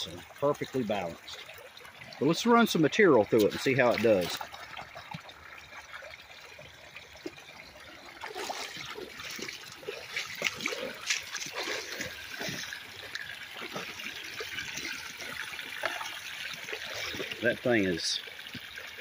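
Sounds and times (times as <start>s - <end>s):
water gurgling and splashing: 0.0s - 19.0s.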